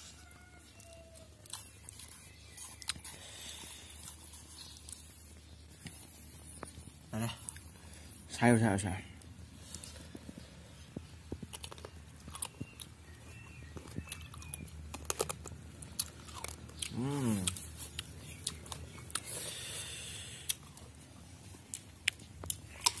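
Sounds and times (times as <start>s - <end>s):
crunchy chewing: 0.0s - 8.3s, 9.2s - 23.0s.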